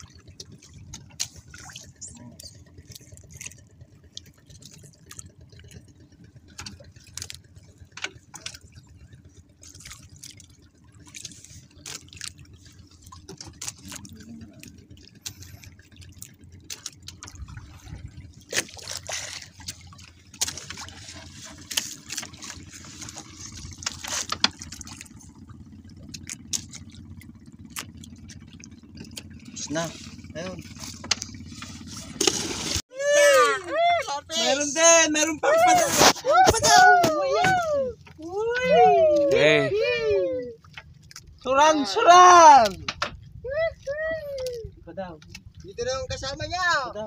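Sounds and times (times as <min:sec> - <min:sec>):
water dripping and splashing: 0:00.0 - 0:33.4, 0:40.6 - 0:45.8.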